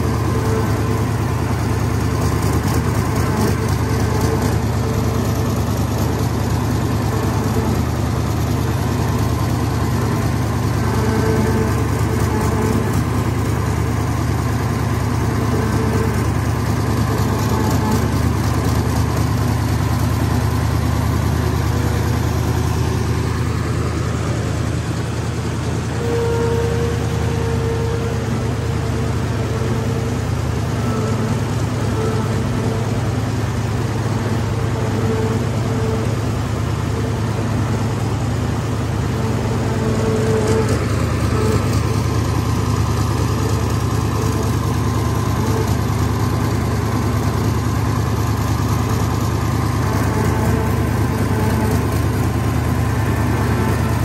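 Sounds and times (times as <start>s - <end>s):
diesel engine running: 0.0s - 54.0s
high whine: 0.0s - 54.0s.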